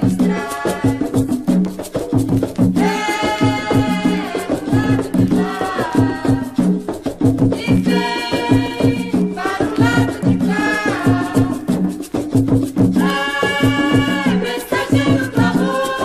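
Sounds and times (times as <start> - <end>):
hand drums: 0.0 - 16.0.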